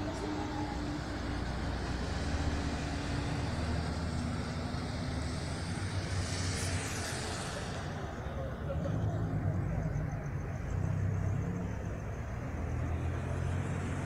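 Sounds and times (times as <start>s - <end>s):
car engine low rumble: 0.0s - 14.0s
street traffic: 0.0s - 14.0s.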